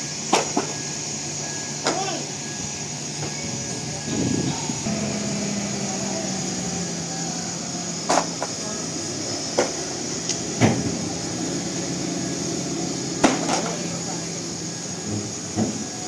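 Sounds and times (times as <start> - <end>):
engine humming: 0.6 - 16.0.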